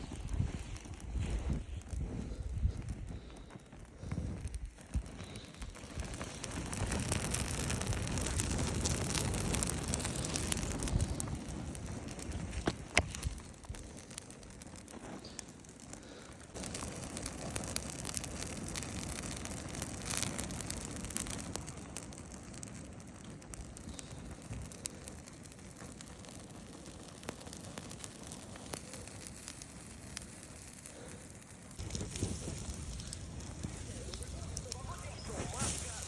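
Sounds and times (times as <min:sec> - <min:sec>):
campfire crackling and popping: 0:00.0 - 0:36.0
fire rushing hiss: 0:00.0 - 0:36.0.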